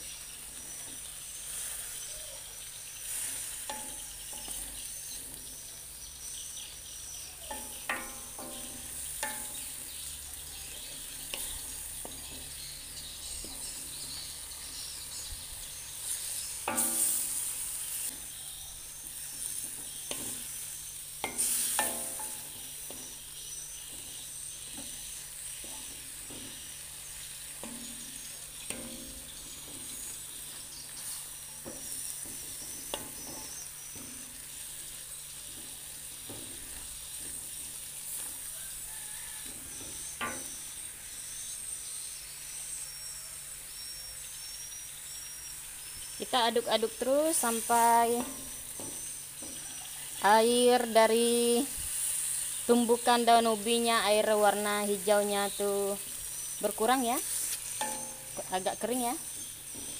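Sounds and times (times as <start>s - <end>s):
leaves sizzling in a wok: 0.0s - 59.9s
metal spatula scraping a pan: 0.6s - 41.6s, 46.8s - 53.3s, 54.4s - 59.9s.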